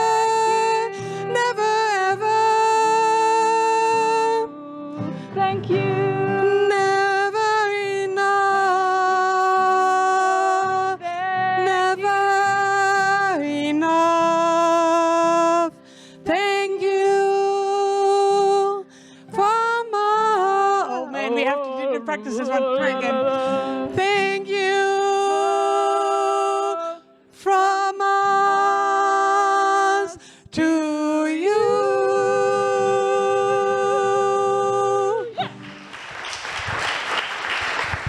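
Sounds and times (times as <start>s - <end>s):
woman singing: 0.0s - 35.6s
acoustic guitar: 0.0s - 38.0s.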